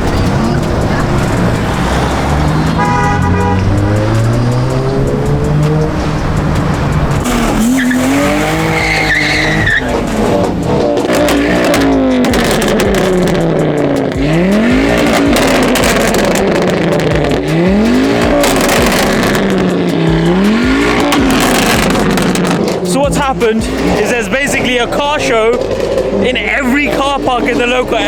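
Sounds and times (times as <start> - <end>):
car engines revving: 0.0 - 28.0
tyres squealing: 0.0 - 28.0.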